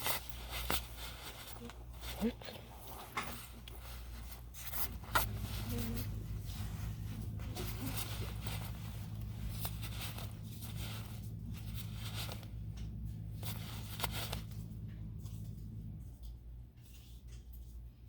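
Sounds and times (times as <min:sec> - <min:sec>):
handling noises: 0:00.0 - 0:17.8
steady low hum: 0:00.0 - 0:18.0.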